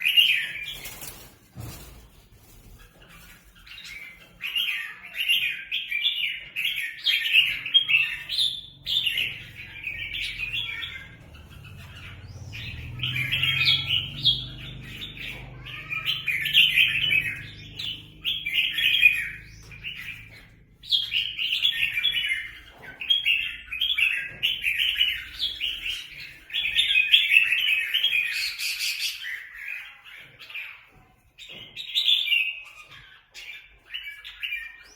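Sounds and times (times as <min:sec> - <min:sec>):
birds chattering song: 0:00.0 - 0:34.9.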